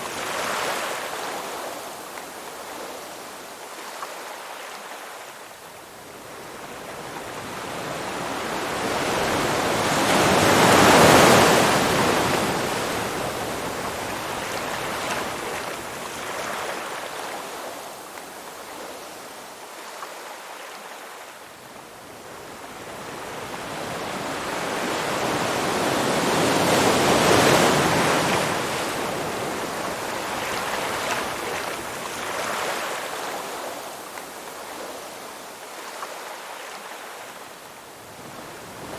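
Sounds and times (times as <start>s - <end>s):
waves washing on shore: 0.0s - 38.9s.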